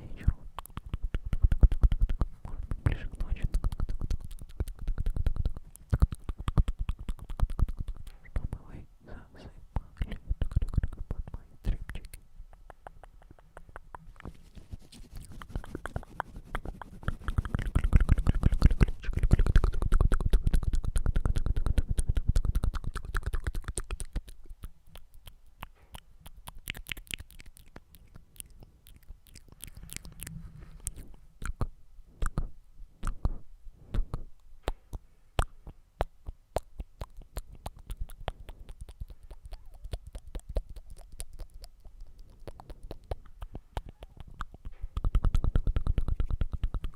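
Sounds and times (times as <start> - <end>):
wet mouth clicks and pops: 0.2 - 8.7, 9.8 - 14.4, 15.0 - 46.9.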